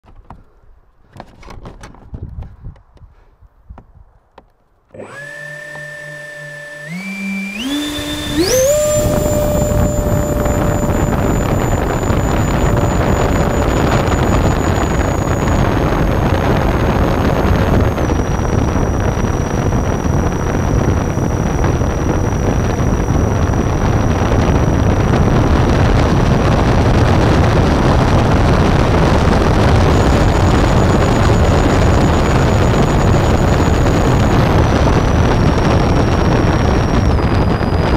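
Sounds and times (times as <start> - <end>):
electric fan motors whining: 4.9 - 37.9.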